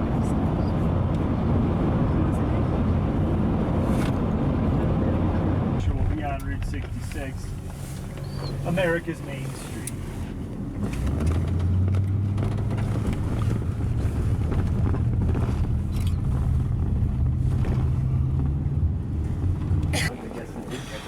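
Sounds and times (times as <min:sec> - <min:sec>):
coach engine drone from inside: 0:00.0 - 0:21.0.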